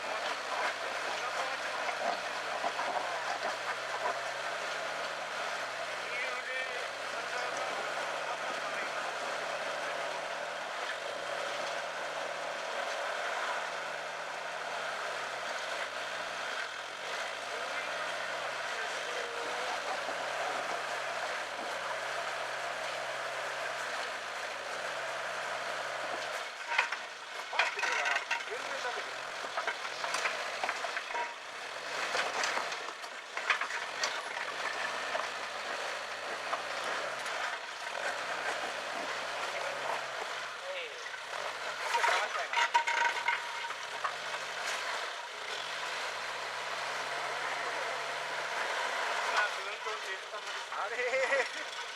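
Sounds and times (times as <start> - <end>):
engine hum: 0.0 - 51.9.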